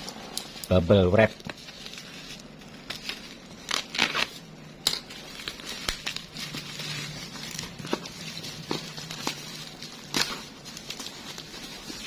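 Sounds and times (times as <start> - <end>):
bubble wrap crackles: 0.0 - 12.0
plastic packaging rustling: 0.0 - 12.0.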